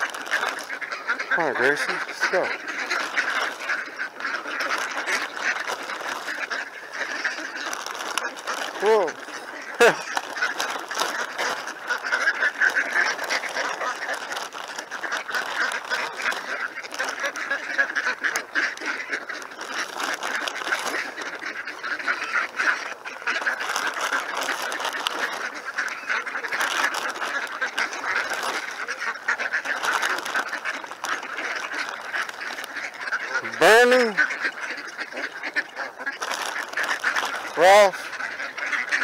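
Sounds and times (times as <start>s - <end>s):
ducks quacking: 0.0s - 39.0s.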